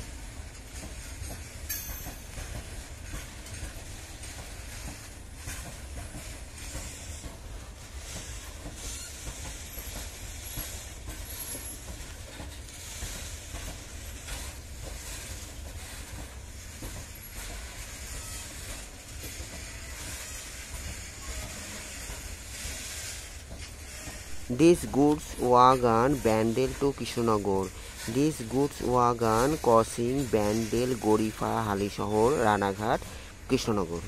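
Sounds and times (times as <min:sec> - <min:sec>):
wheels clacking over rail joints: 0:00.0 - 0:34.0.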